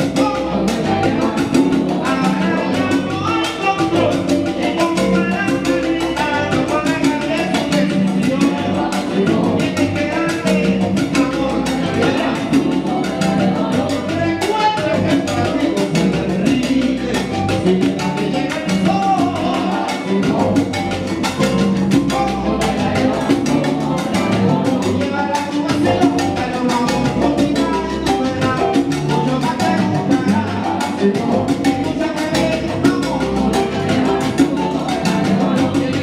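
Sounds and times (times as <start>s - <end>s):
person singing lead vocals: 0.0s - 21.1s, 21.9s - 36.0s
salsa band playing: 0.0s - 36.0s.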